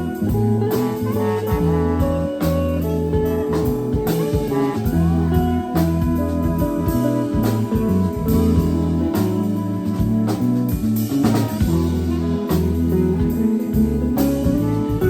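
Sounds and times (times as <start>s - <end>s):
bass line: 0.0s - 15.0s
drum kit: 0.0s - 15.0s
guitar: 0.0s - 15.0s.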